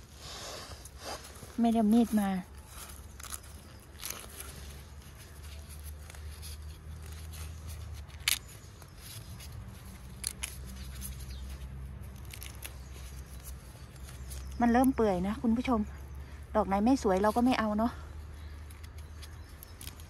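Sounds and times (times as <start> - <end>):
handling rustle: 0.0 - 20.0.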